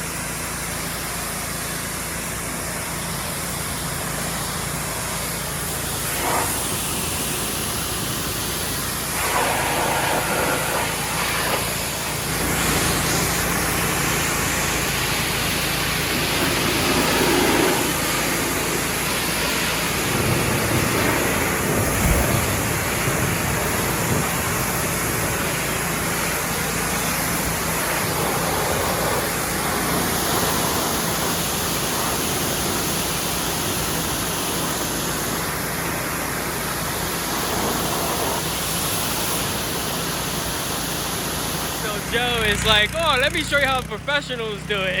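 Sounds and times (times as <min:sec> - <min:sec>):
high-pressure water spray hissing: 0:00.0 - 0:42.6
pressure washer engine humming: 0:00.0 - 0:45.0.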